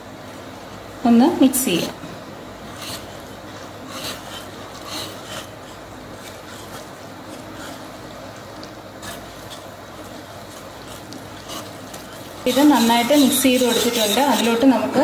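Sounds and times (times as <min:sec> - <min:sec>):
whisk scraping in a bowl: 0:02.6 - 0:15.0.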